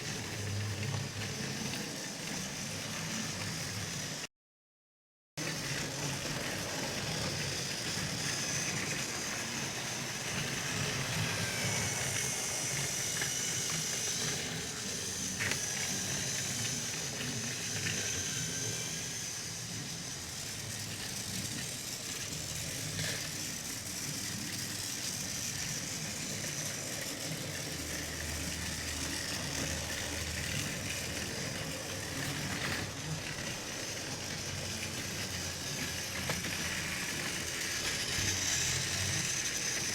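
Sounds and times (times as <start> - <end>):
wheels clattering on plastic track: 0.0 - 4.2, 5.4 - 39.9
toy train motor whine: 0.0 - 4.3, 5.4 - 39.9.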